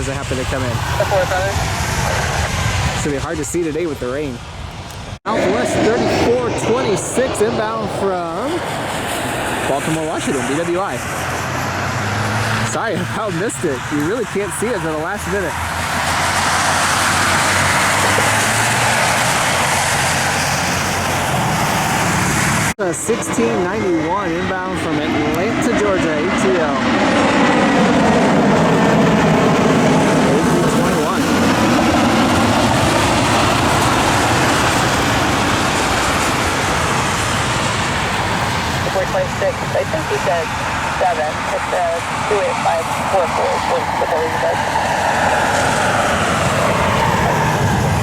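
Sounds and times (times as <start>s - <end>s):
jet engines: 0.0s - 48.0s.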